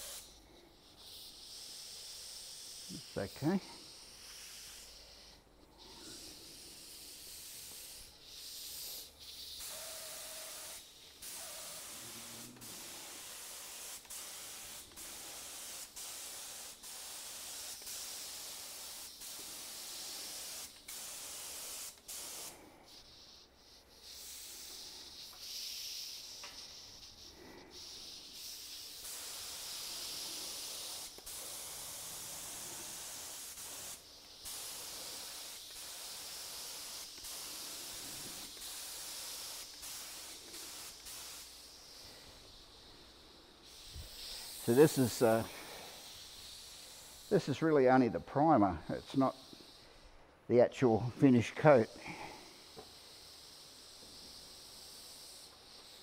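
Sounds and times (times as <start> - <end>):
spray gun hissing: 0.0 - 50.0, 50.8 - 56.0.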